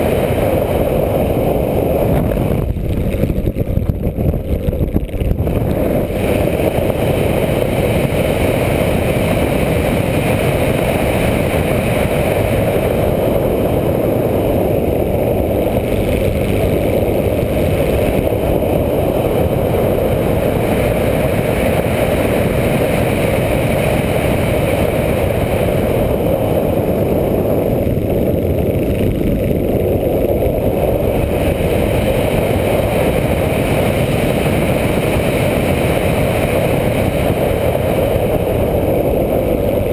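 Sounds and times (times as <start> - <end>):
model airplane motor and propeller: 0.0 - 39.9
wind rushing over microphone: 0.0 - 39.9.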